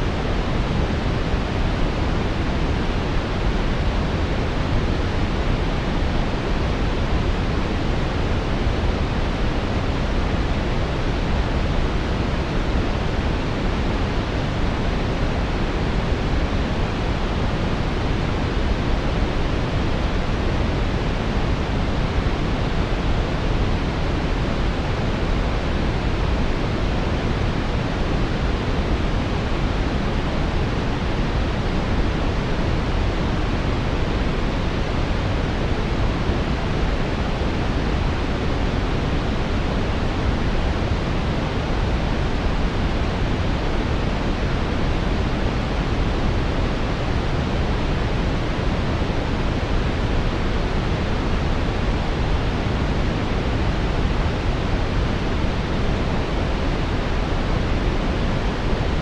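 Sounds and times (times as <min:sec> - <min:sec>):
deep brown noise hiss: 0:00.0 - 0:59.0.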